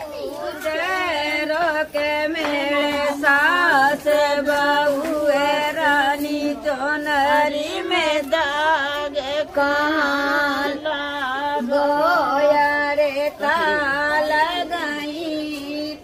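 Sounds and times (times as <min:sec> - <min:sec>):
woman singing a chant-like song: 0:00.0 - 0:16.0.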